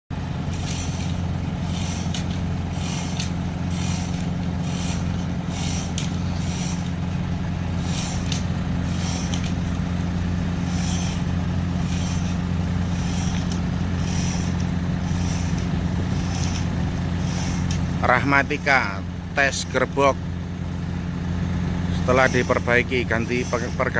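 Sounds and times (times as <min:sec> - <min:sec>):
boat engine droning: 0:00.1 - 0:23.9.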